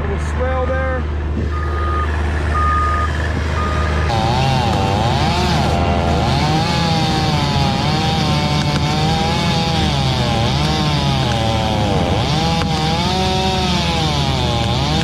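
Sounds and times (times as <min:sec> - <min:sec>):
equipment engine running: 0:00.0 - 0:15.0.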